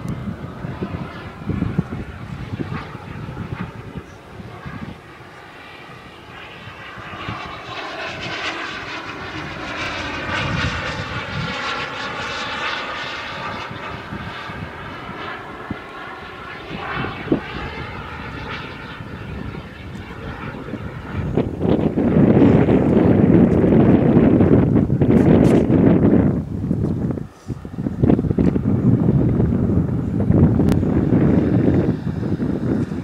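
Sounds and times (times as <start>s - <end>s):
model jet turbine whine: 0.0s - 33.0s.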